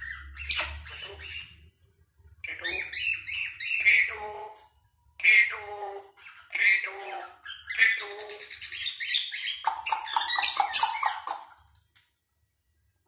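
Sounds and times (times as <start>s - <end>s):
parrot calling: 0.0s - 1.6s, 2.4s - 11.6s.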